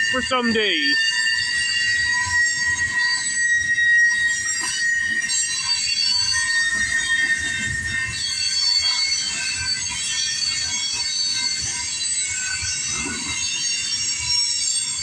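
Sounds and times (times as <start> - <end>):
low uneven rumble of train: 0.0 - 15.0
train wheels squealing: 0.0 - 15.0.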